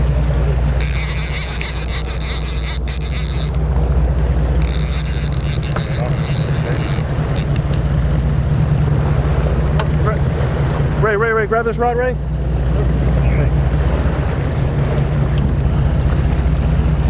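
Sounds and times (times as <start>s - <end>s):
boat engine humming: 0.0s - 17.0s
wind and water hiss: 0.0s - 17.0s.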